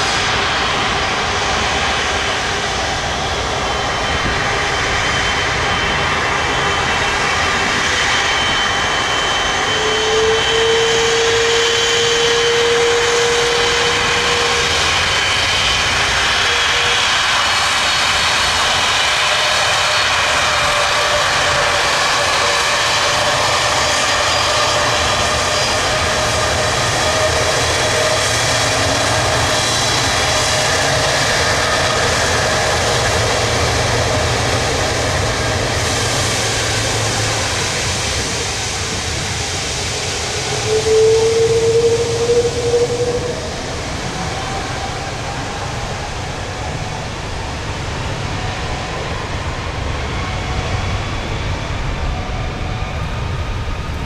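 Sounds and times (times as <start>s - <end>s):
jet engine whine: 0.0s - 54.0s
jet engines roaring: 0.0s - 54.0s.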